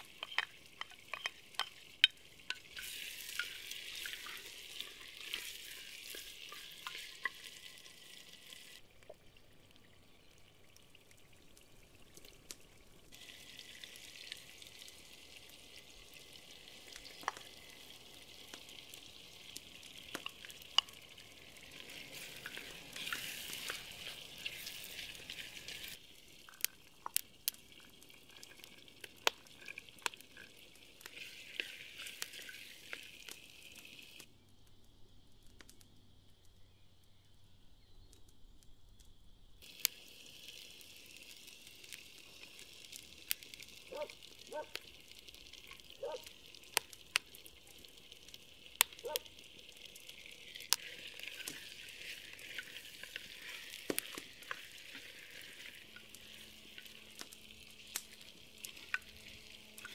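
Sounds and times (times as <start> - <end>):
food sizzling in a pot: 0.0 - 8.8, 12.4 - 34.3, 39.6 - 59.9.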